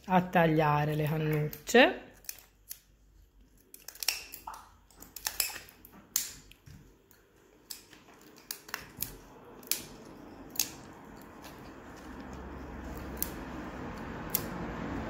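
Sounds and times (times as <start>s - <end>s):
scissors snipping plastic straws: 1.0s - 2.9s, 3.5s - 15.0s.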